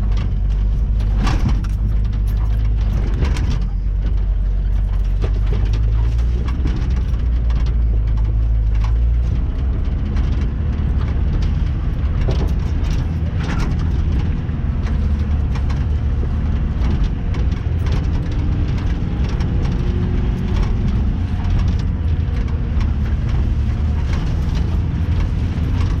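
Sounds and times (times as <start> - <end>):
off-road vehicle engine: 0.0 - 26.0.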